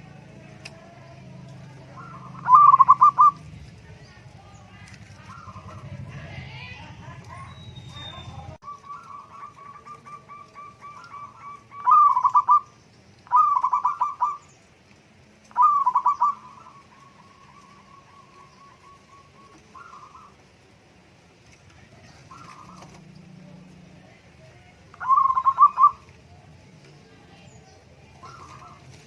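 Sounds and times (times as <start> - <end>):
dove cooing and singing: 0.1 - 21.0, 21.7 - 29.0.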